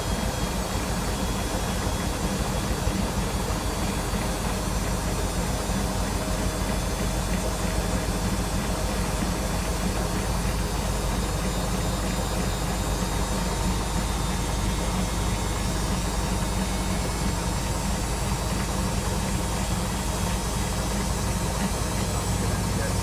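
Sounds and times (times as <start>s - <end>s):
washing machine spinning: 0.0s - 23.0s.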